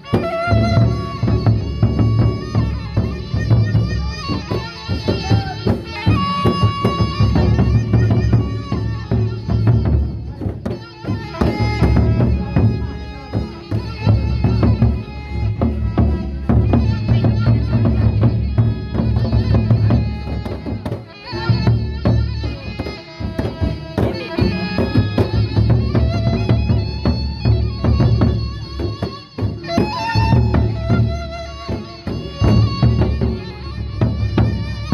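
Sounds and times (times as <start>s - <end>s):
barrel drums beaten: 0.0s - 34.9s.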